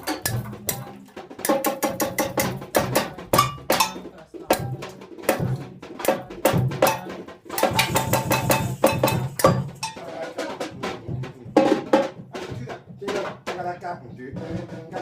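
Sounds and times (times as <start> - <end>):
samba drums: 0.0 - 15.0.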